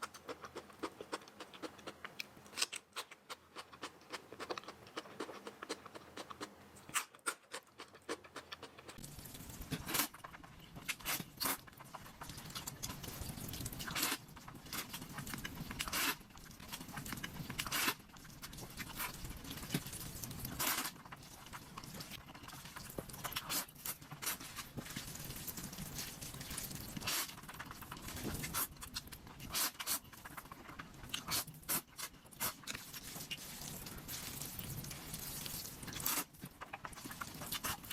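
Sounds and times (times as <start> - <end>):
wet chewing of noodles: 0.0 - 37.9.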